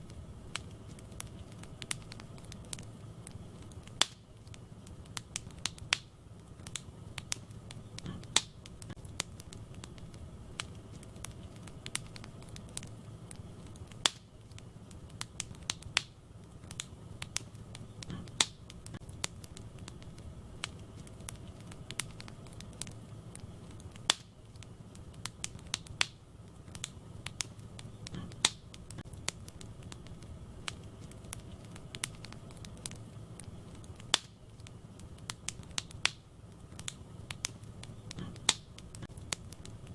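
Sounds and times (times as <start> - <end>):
fire crackling and popping: 0.0 - 39.9
flames rumbling: 0.0 - 39.9.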